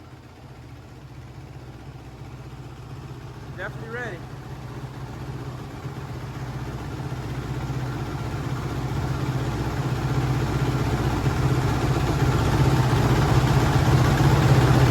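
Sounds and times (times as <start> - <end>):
motorcycle engine running at low speed: 0.0 - 14.9.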